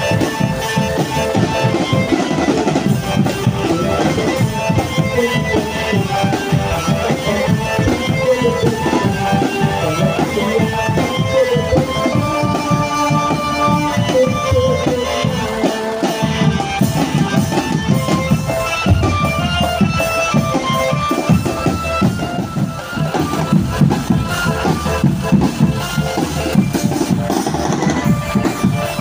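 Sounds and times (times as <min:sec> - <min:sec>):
live drum band music: 0:00.0 - 0:29.0.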